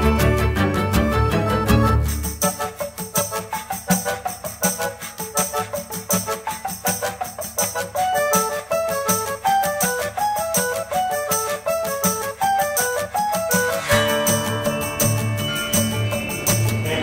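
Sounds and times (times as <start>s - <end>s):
plucked guitar melody: 0.0s - 17.0s
bright percussion beat: 2.0s - 17.0s.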